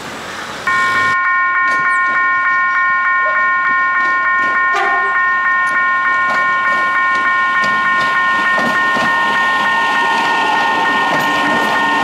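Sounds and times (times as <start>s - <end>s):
train wheels on rails: 0.0s - 12.0s
pulsing high electronic tone: 0.7s - 12.0s.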